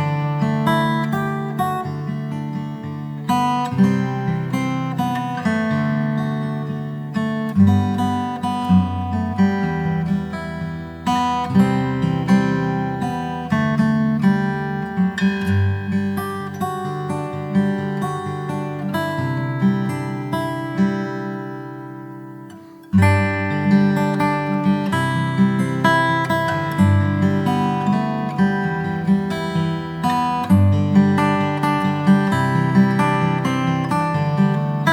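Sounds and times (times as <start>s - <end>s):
strummed acoustic guitar music: 0.0s - 34.9s.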